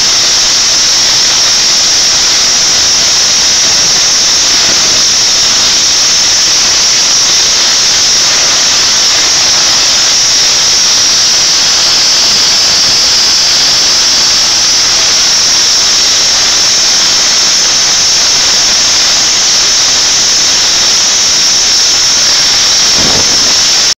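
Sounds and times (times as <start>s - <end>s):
steam hissing from safety valves: 0.0s - 24.0s.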